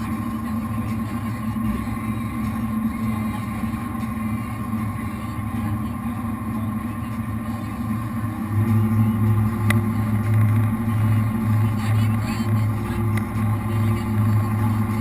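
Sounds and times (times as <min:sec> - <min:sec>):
boat engines droning: 0:00.0 - 0:15.0.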